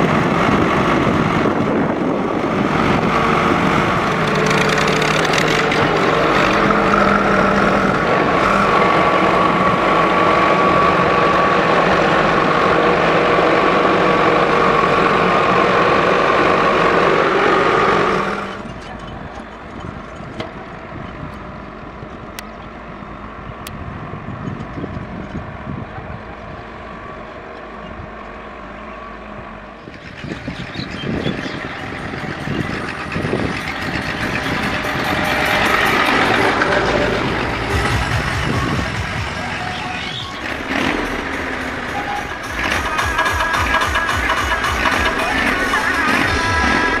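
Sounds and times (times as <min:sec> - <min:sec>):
tractor diesel engine droning: 0:00.0 - 0:47.0.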